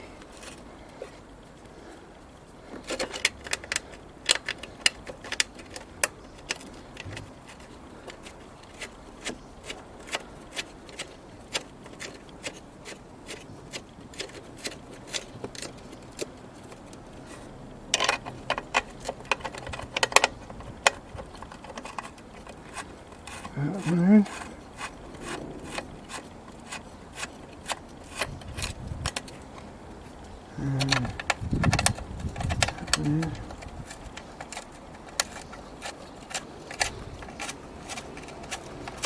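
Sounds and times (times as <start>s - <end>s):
hand tools and metal parts clinking: 0.0s - 39.0s.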